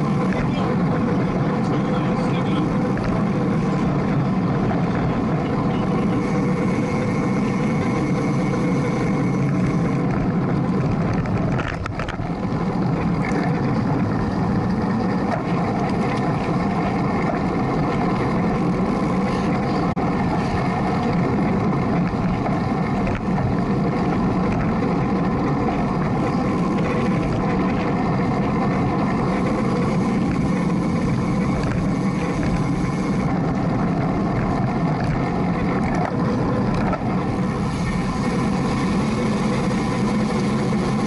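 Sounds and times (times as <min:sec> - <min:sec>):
wind rushing over microphone: 0:00.0 - 0:41.0.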